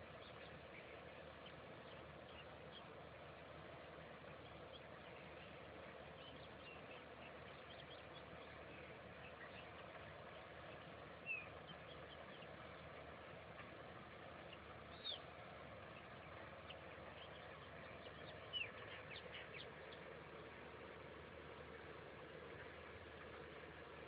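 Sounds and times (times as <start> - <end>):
faint birds chirping: 0.0 - 24.0
steady background hiss: 0.0 - 24.0.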